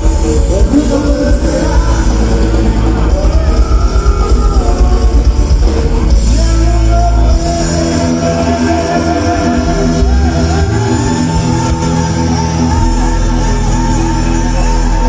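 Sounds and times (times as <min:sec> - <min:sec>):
person singing: 0:00.0 - 0:15.0
rock band playing loudly: 0:00.0 - 0:15.0.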